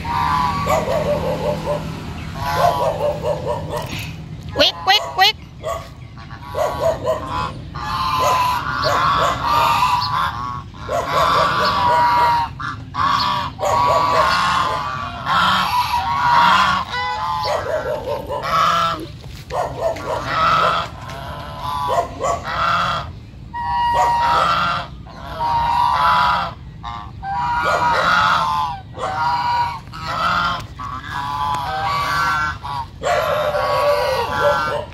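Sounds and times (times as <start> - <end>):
geese honking loudly: 0.0 - 34.9.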